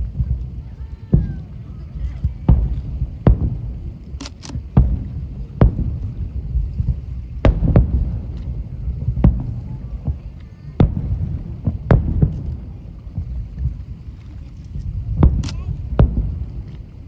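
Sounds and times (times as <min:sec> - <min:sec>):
firework shells booming: 0:00.0 - 0:17.0
low rumble of echoing reports: 0:00.0 - 0:17.0.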